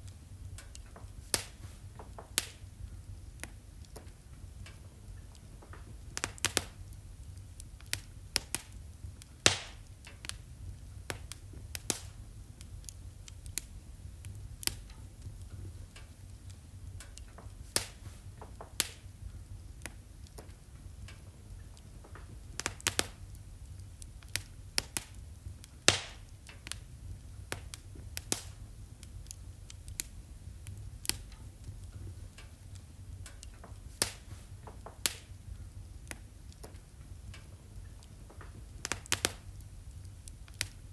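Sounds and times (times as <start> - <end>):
low steady rumble: 0.0 - 40.9
wood fire crackling: 0.0 - 40.9.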